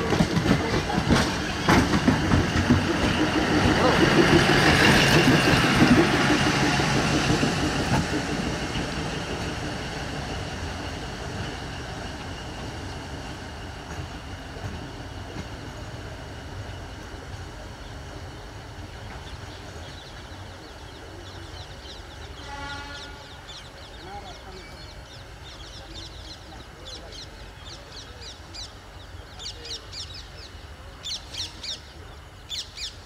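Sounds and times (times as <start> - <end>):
diesel train pulling away: 0.0 - 33.0.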